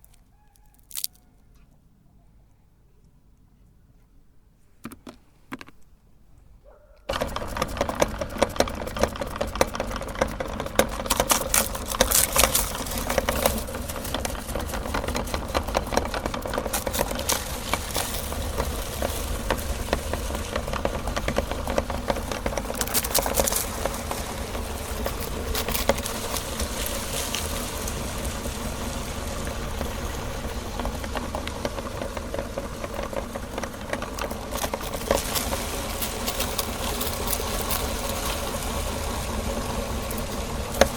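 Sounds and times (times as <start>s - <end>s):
electric meat grinder running: 7.1s - 40.9s.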